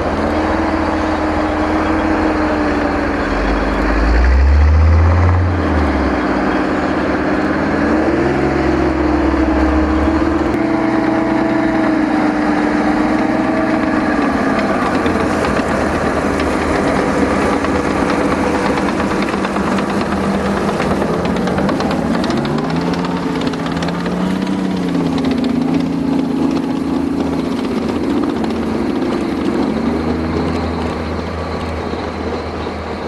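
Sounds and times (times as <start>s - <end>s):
heavy vehicle engine rumbling: 0.0s - 33.0s.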